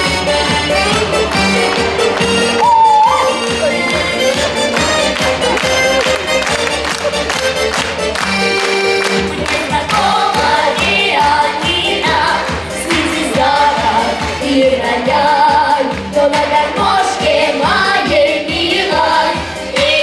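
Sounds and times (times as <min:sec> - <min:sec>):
pop instrumental backing: 0:00.0 - 0:20.0.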